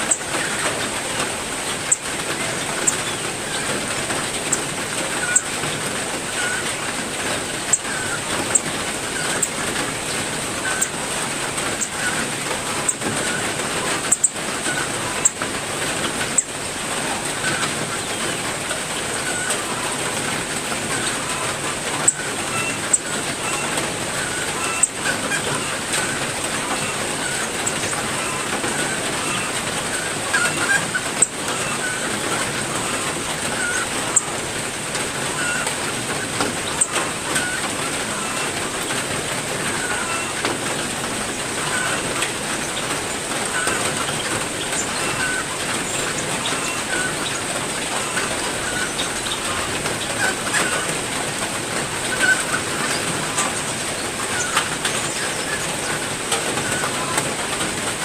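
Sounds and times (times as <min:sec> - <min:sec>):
caged songbirds chirping: 0:00.0 - 0:58.0
heavy rain falling: 0:00.0 - 0:58.0
sharp ticks of raindrops: 0:00.0 - 0:58.0.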